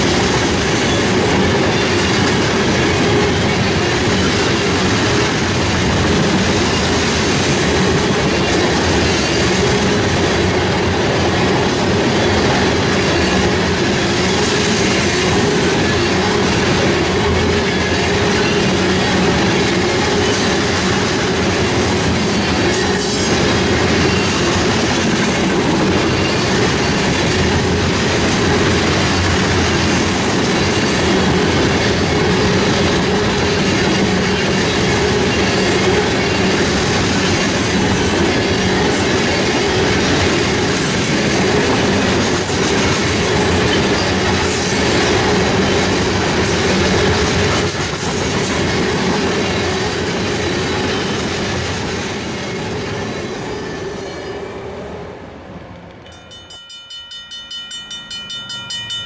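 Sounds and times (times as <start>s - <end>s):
freight train wheels clattering: 0.0s - 54.1s.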